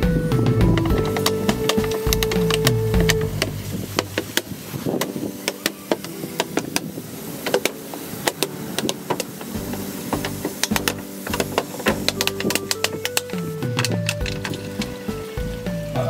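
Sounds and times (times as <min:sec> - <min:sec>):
rapid clicks and knocks: 0:00.2 - 0:15.3.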